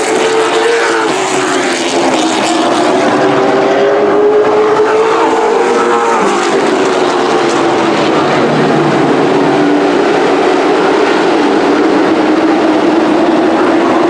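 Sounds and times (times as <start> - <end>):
racing truck engines: 0.0 - 14.0.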